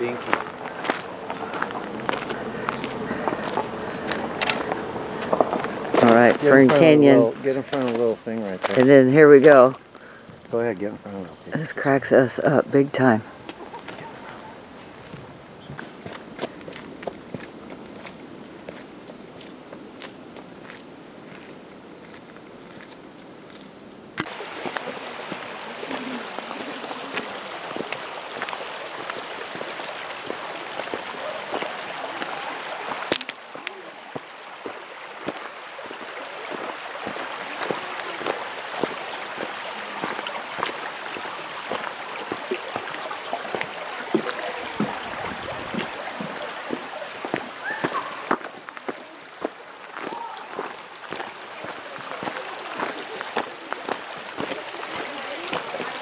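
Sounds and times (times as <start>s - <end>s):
footsteps crunching on gravel: 0.0s - 9.6s, 15.8s - 56.0s
creek rushing over gravel: 0.0s - 56.0s.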